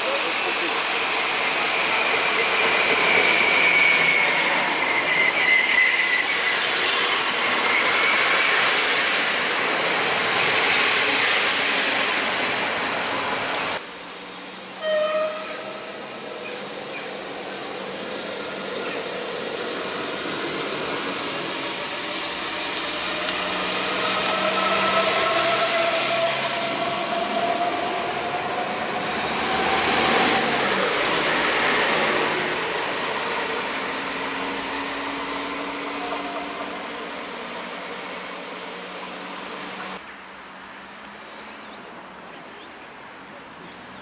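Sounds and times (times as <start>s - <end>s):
diesel train passing: 0.0s - 42.1s.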